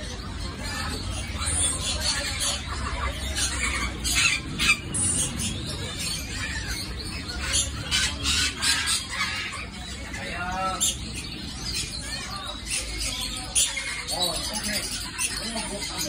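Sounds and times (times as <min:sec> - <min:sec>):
caged birds chirping and squealing: 0:00.0 - 0:16.0.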